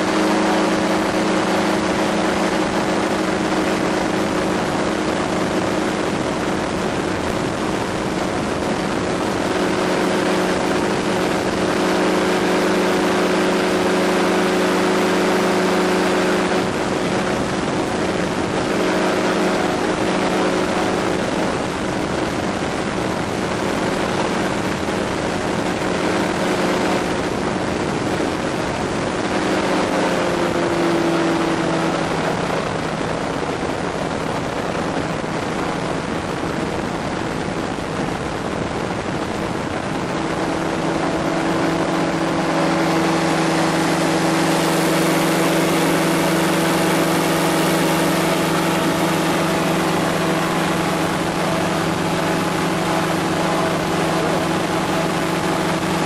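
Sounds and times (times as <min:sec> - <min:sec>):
engine and propeller running: 0:00.0 - 0:56.0.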